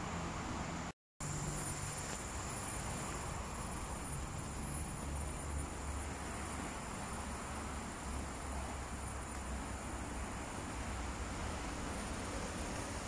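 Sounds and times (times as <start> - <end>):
high insect drone: 1.2 - 13.0.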